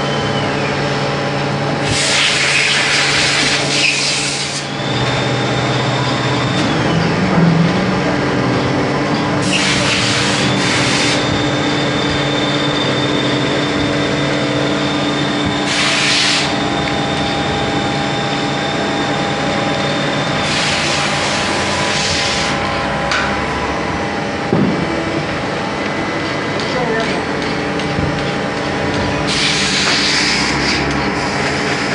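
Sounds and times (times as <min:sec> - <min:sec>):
lathe machine hum and whine: 0:00.0 - 0:31.9.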